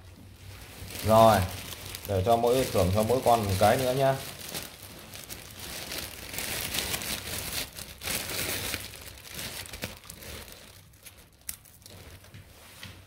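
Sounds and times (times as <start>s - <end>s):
plastic snack packet crinkling: 0.7s - 12.3s.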